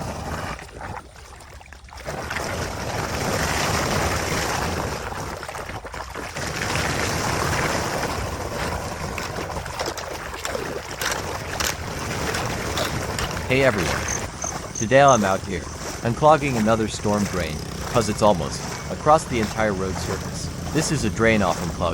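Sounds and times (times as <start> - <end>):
running water rushing: 0.0 - 21.9.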